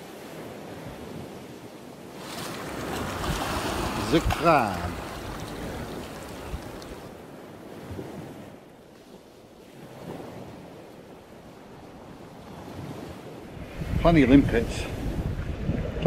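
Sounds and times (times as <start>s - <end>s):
surf on rocky shore: 0.0s - 16.0s
wind rumbling on microphone: 0.0s - 16.0s.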